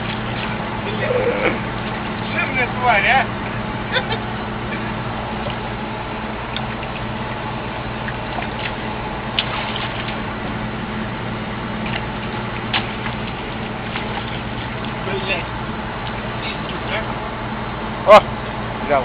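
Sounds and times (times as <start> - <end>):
excavator diesel engine hum: 0.0 - 19.0
water splashing and churning: 0.0 - 19.0.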